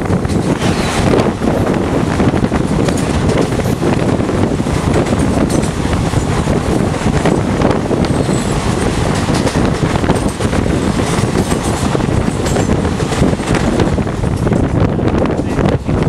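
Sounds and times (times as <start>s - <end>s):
train clatter: 0.0s - 16.0s
train wheels rumbling on rails: 0.0s - 16.0s.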